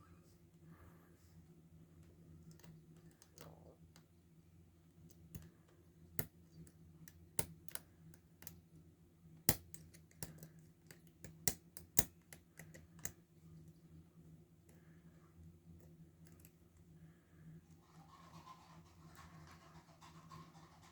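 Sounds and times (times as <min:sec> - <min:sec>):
faint low hum: 0:00.0 - 0:20.9.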